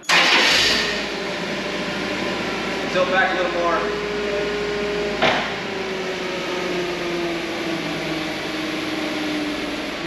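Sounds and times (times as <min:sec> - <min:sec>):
forklift hydraulic whine: 0:00.1 - 0:10.0.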